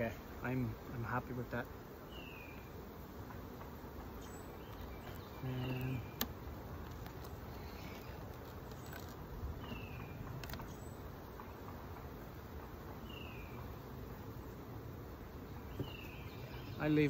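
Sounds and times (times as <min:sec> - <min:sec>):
birds chirping: 0:00.0 - 0:17.0
honeybees humming: 0:00.0 - 0:17.0.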